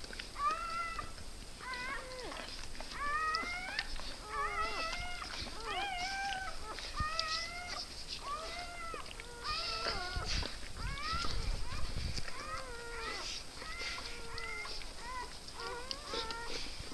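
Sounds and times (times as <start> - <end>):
newborn puppies crying: 0.2 - 16.9.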